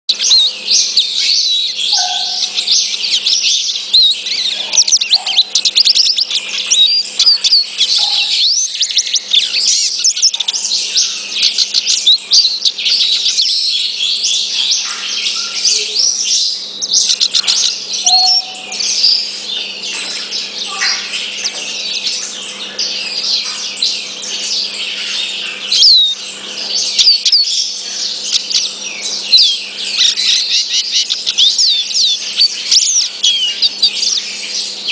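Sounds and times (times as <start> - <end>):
finch twittering song: 0.1 - 34.9.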